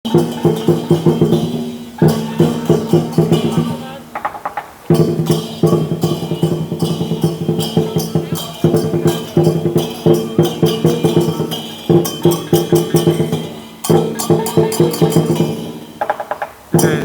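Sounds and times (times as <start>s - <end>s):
cymbals clashing: 0.0s - 17.0s
drum beaten fast: 0.0s - 17.0s
gong ringing: 0.1s - 4.1s, 4.9s - 16.0s.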